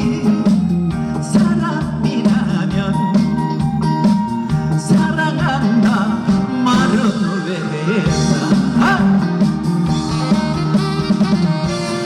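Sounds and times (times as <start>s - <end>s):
upbeat trot band music: 1.3s - 12.0s.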